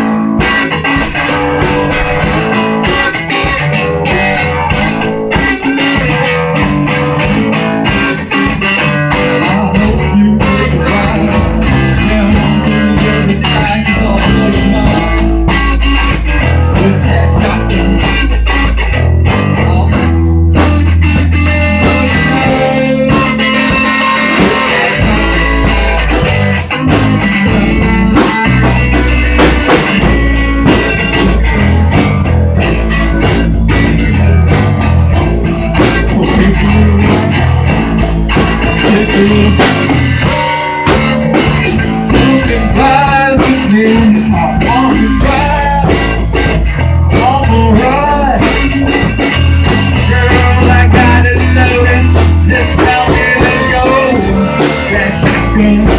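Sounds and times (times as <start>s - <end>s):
bending guitar notes: 0.0s - 55.9s
rock band playing live: 0.0s - 55.9s.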